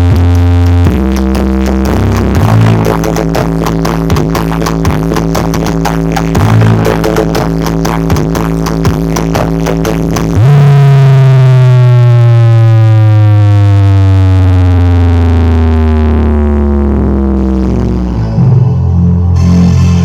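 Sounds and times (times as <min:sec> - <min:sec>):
deep synth tone sliding downward: 0:00.0 - 0:20.0
loud electronic dance music: 0:00.0 - 0:20.0.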